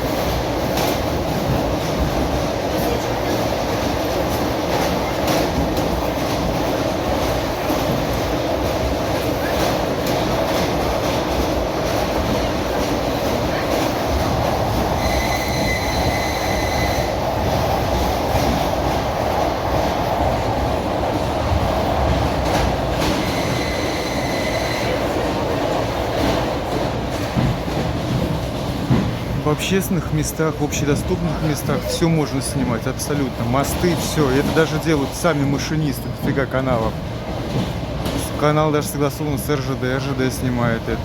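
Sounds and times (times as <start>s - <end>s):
electric train rumbling on rails: 0.0s - 41.0s.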